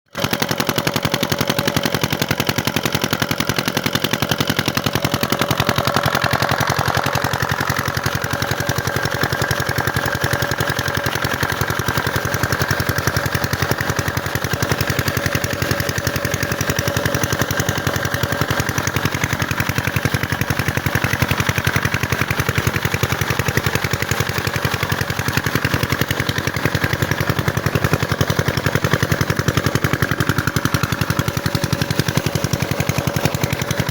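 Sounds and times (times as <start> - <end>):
diesel engine knocking: 0.1 - 33.9.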